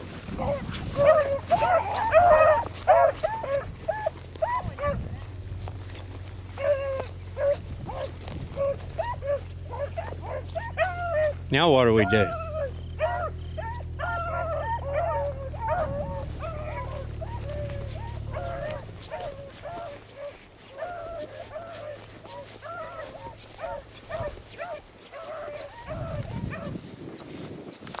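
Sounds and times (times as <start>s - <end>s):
low steady hum: 0.0s - 25.0s
beagles baying: 0.0s - 27.4s.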